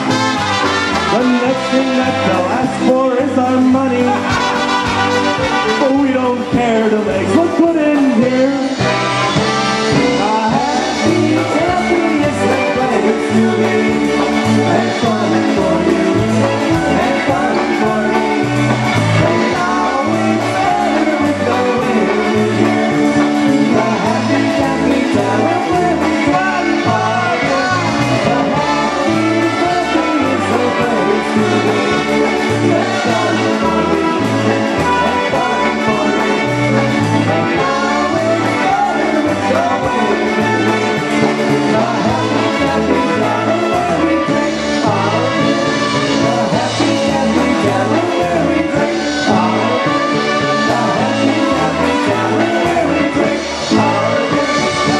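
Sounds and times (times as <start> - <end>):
polka band playing: 0.0 - 54.9.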